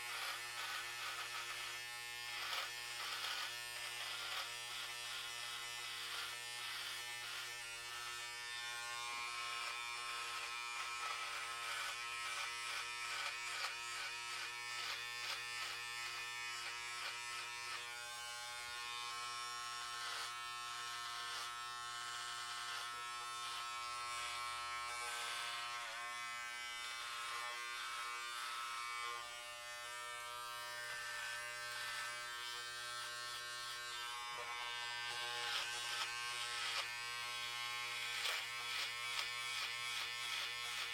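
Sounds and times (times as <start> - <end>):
electric hair clippers cutting hair: 0.0 - 40.9.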